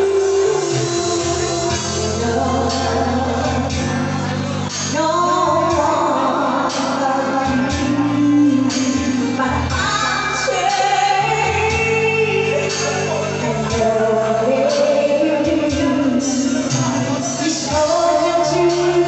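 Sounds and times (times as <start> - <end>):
instrumental backing: 0.0 - 19.0
woman singing pop ballad: 0.0 - 19.0.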